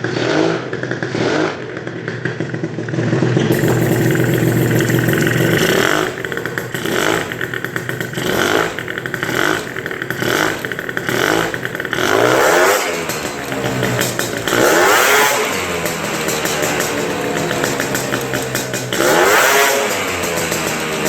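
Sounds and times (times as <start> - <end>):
two-stroke scooter engine revving: 0.0 - 21.0.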